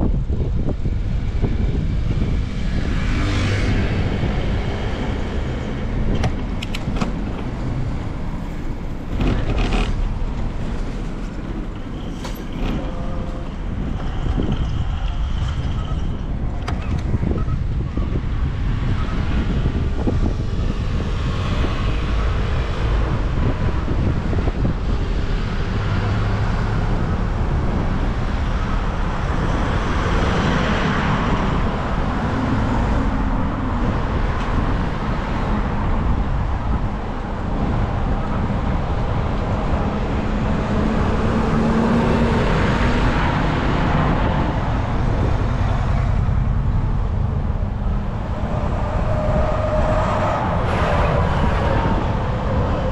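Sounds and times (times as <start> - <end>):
road traffic passing: 0.0 - 52.9
wind buffeting on microphone: 0.0 - 52.9.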